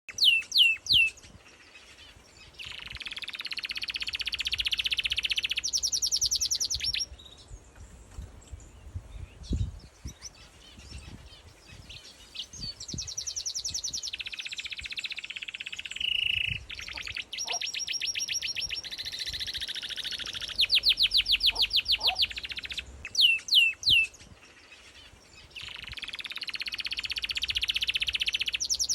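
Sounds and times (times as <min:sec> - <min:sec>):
songbird singing trills: 0:00.1 - 0:28.9.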